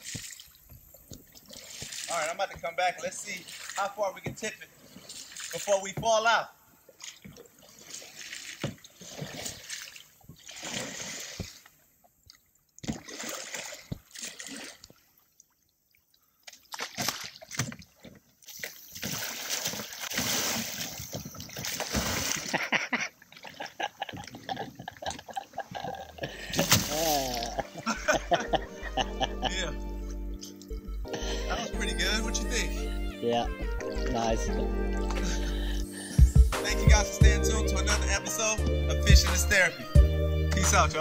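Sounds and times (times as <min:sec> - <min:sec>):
water splashing and sloshing: 0:00.0 - 0:32.7, 0:33.7 - 0:37.0.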